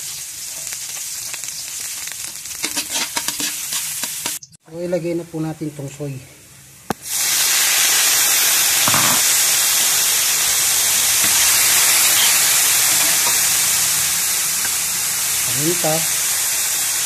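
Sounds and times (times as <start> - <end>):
soy sauce sizzling in a hot wok: 0.0 - 4.5, 6.9 - 17.0.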